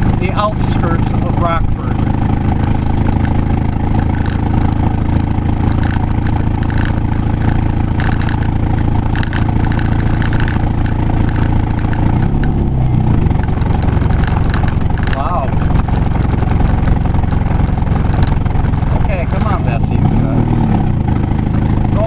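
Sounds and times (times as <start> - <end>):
road noise: 0.0 - 22.0
vehicle engine running: 0.0 - 22.0.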